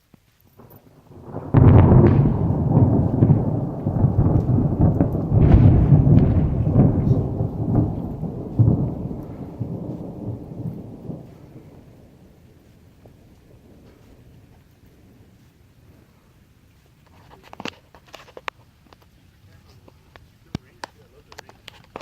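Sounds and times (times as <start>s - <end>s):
thunder crack and rumble: 0.6s - 18.3s.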